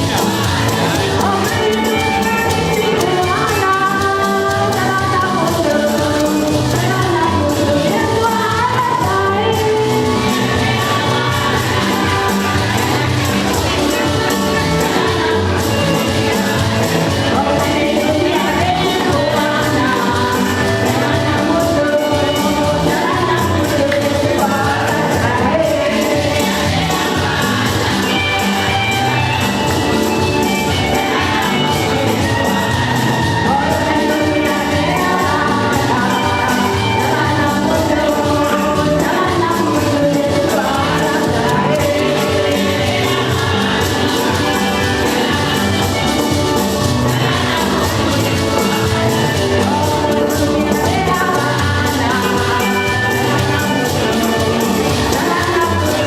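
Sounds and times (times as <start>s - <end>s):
group singing a gospel hymn: 0.0s - 56.0s
musical accompaniment: 0.0s - 56.0s
percussion steady beat: 0.0s - 56.0s.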